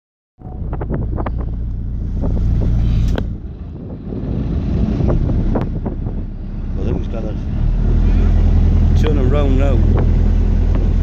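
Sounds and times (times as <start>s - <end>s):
boat engine low rumble: 0.4s - 11.0s
wind buffeting microphone: 0.4s - 11.0s.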